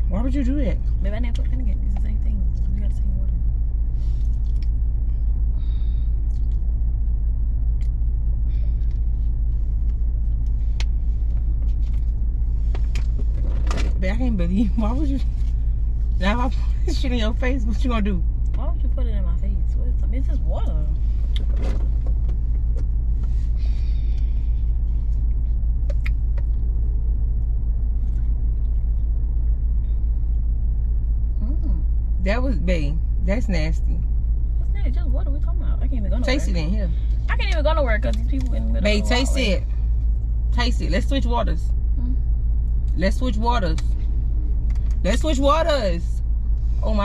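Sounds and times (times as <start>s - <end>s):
road and engine rumble in car: 0.0s - 47.0s.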